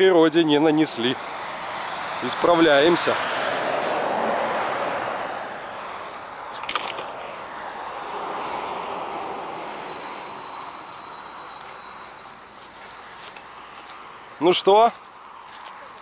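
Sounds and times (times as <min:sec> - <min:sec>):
vehicle passing on highway: 0:00.5 - 0:16.0.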